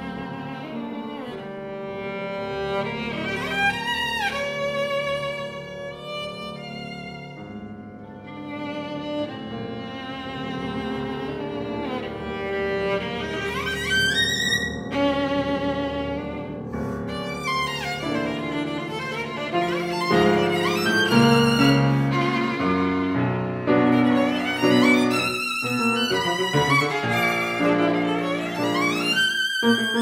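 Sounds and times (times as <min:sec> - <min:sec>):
piano accompaniment: 0:00.0 - 0:30.0
solo violin with vibrato: 0:00.0 - 0:30.0.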